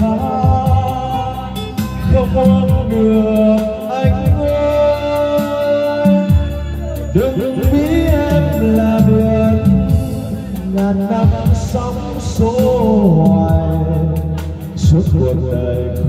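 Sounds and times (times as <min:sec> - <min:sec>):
karaoke backing track: 0:00.0 - 0:16.0
man singing into a microphone: 0:00.0 - 0:16.0.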